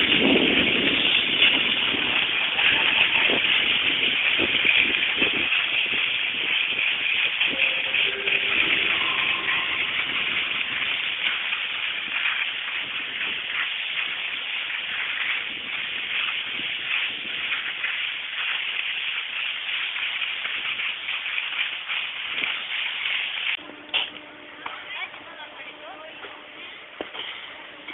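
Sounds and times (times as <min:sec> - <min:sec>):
skis scraping over packed snow: 0:00.0 - 0:23.6.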